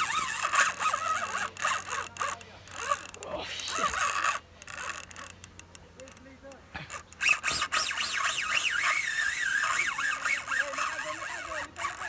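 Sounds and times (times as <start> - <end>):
fishing reel clicking and zipping: 0.0 - 12.0.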